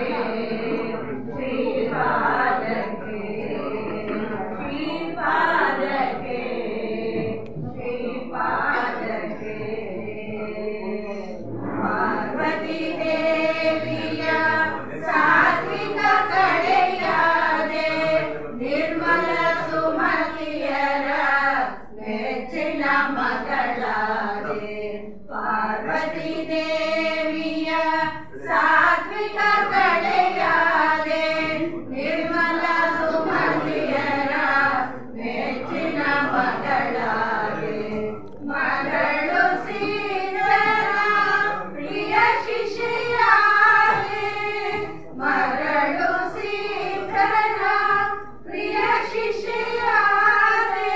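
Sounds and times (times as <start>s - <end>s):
women singing into a microphone: 0.0s - 50.9s.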